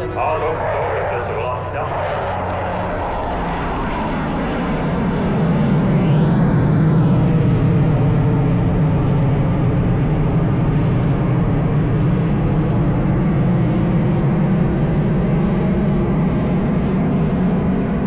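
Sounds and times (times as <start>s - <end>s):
aircraft engines droning: 0.0s - 16.4s.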